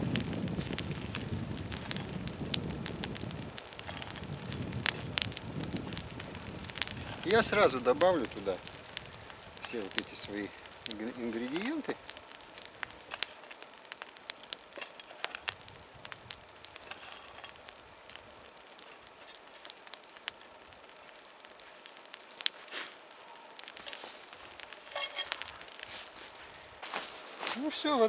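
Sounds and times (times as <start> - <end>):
campfire crackling: 0.0 - 28.0
faint steady hiss: 0.0 - 28.0
fire popping: 0.0 - 28.0.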